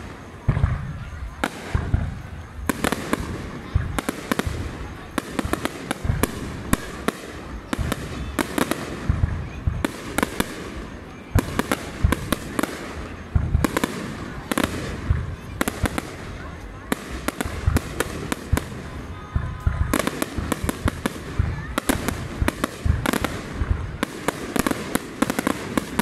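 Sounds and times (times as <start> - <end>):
deep fireworks booms: 0.0 - 26.0
fireworks bangs and crackles: 0.0 - 26.0.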